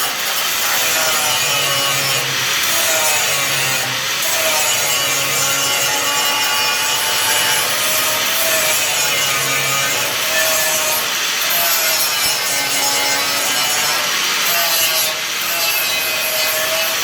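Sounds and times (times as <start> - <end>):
angle grinder grinding metal: 0.0 - 17.0.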